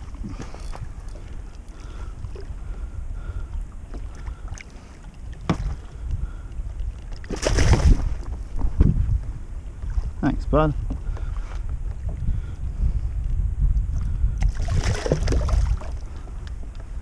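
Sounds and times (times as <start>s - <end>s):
water lapping against kayak hull: 0.0s - 17.0s
wind buffeting microphone: 0.0s - 17.0s.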